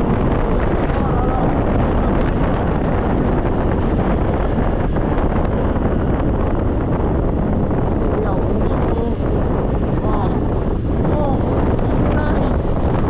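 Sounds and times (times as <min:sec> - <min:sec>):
road noise: 0:00.0 - 0:13.0
wind rush on microphone: 0:00.0 - 0:13.0.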